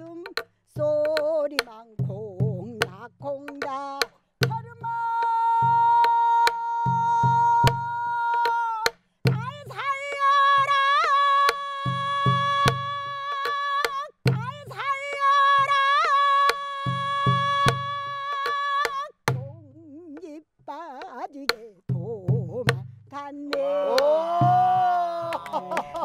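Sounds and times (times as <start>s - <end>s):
barrel drum beats: 0.0s - 25.0s
person singing with vibrato: 0.0s - 26.0s.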